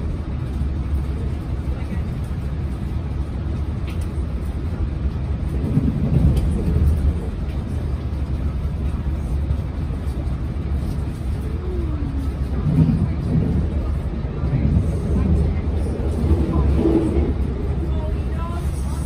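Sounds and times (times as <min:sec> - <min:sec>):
train rumbling inside carriage: 0:00.0 - 0:19.0.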